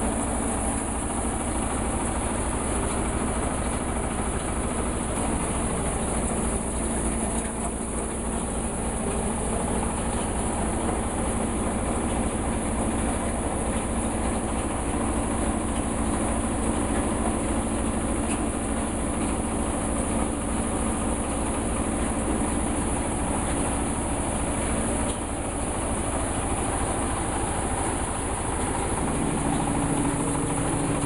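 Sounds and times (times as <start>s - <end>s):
wood crusher machine running: 0.0s - 31.0s.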